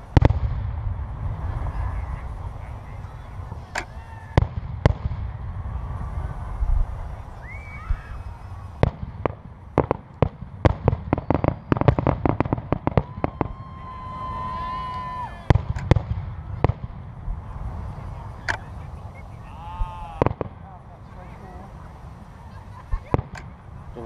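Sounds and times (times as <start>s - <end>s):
fireworks bangs: 0.0s - 24.0s.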